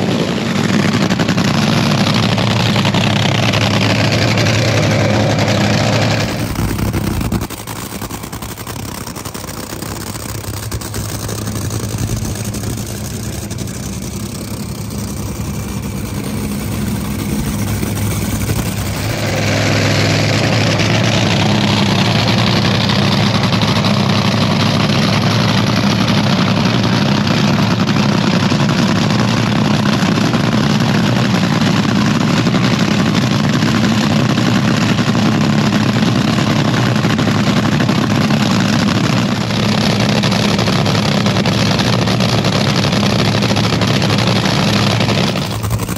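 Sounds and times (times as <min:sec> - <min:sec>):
dragster engine idling: 0:00.0 - 0:45.9.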